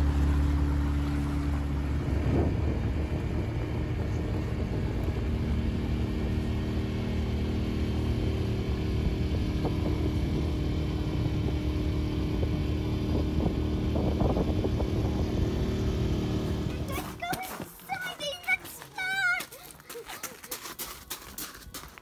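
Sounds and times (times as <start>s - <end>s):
engine running steadily: 0.0s - 17.9s.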